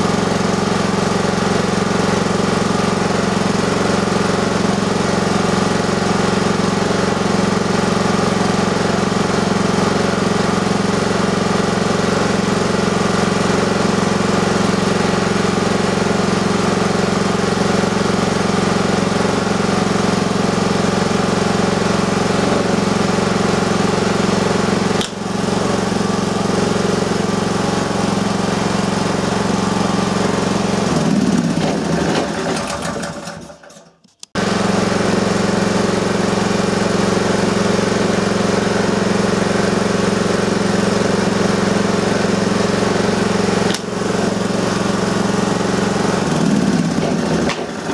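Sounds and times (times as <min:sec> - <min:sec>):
generator engine running: 0:00.0 - 0:47.9.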